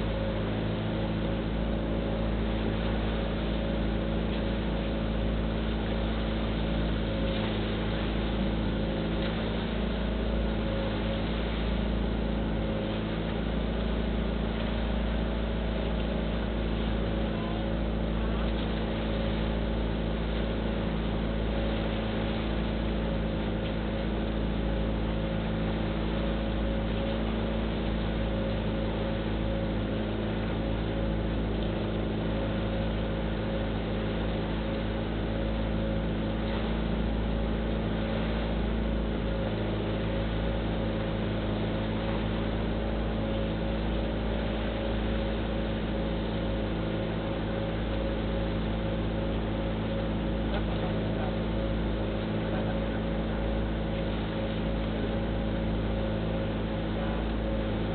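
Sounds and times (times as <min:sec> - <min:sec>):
wind and water hiss: 0:00.0 - 0:17.2, 0:17.8 - 0:57.9
boat engine droning: 0:00.0 - 0:57.9.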